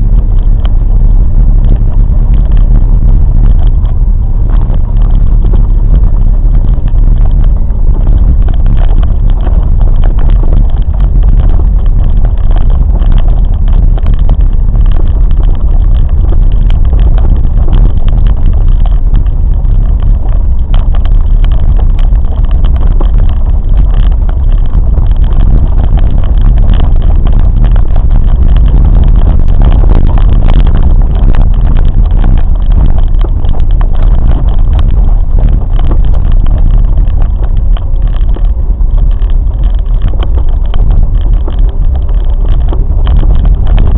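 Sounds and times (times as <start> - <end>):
moving vehicle rumble: 0.0 - 43.9.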